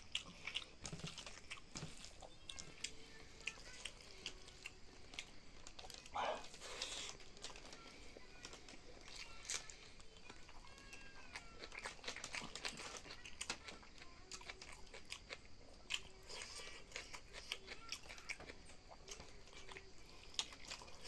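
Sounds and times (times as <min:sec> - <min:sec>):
chewing crunchy meat: 0:00.0 - 0:21.0.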